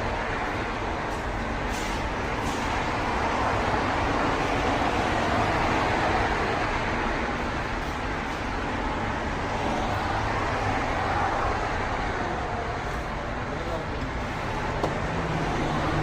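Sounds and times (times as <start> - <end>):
vehicle rumble with hiss: 0.0 - 16.0.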